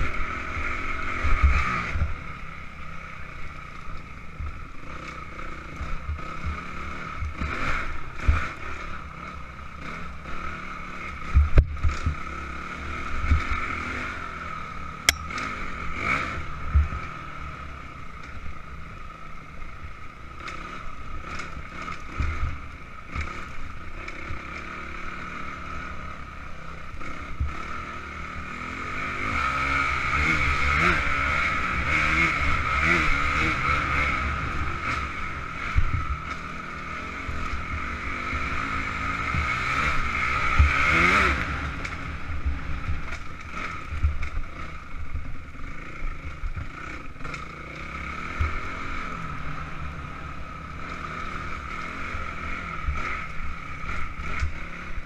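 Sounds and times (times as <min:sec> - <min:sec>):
dirt bike engine under throttle: 0:00.0 - 0:55.0.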